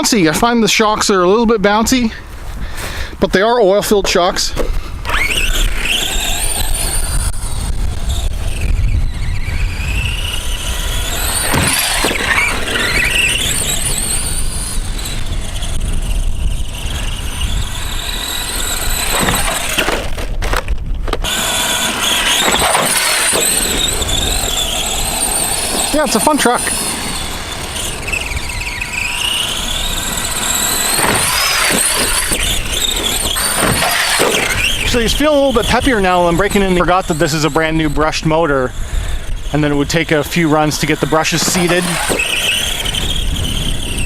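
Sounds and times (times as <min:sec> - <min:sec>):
electric toy truck motor whining: 0:04.0 - 0:44.0.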